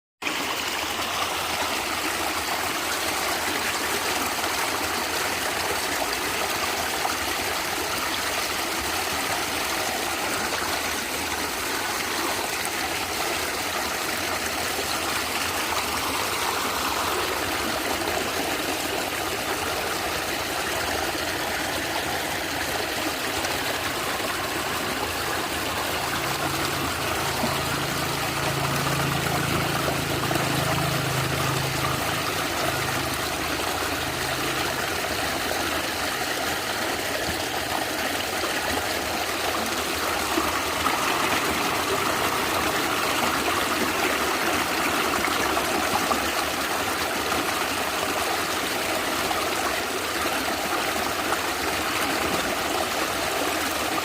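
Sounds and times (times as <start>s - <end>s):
stream water gurgling: 0.2s - 54.0s.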